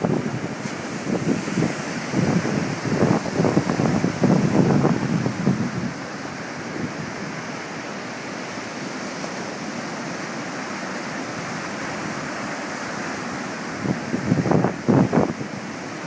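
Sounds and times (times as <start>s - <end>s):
surf washing: 0.0s - 16.0s.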